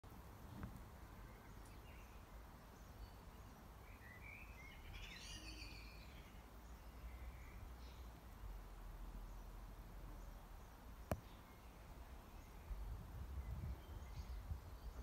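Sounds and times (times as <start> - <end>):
bird chirping: 0.4 - 15.0.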